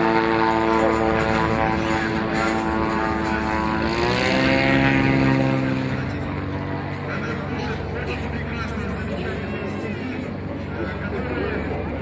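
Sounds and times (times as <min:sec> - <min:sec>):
propeller aircraft engine: 0:00.0 - 0:12.0.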